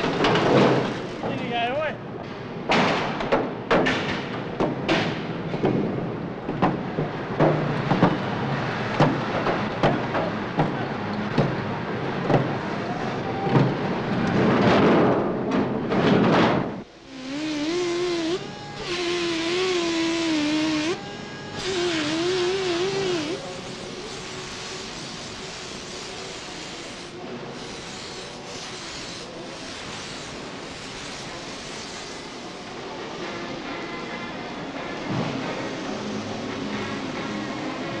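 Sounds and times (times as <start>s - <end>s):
steady factory clatter: 0.0s - 17.0s, 22.8s - 38.0s.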